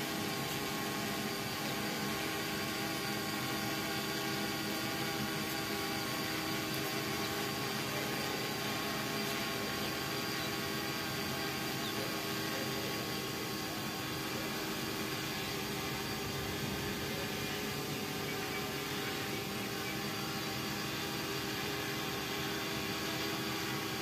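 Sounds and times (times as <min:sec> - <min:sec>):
quadcopter hovering: 0:00.0 - 0:24.0.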